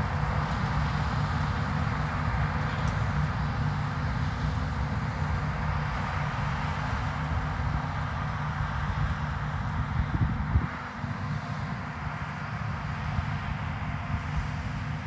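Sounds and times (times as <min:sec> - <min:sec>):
diesel engine hum: 0:00.0 - 0:15.0.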